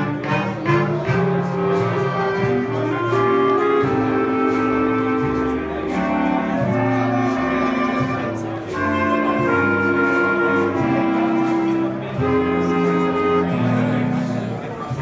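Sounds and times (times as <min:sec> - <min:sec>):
clarinet ensemble playing: 0:00.0 - 0:15.0.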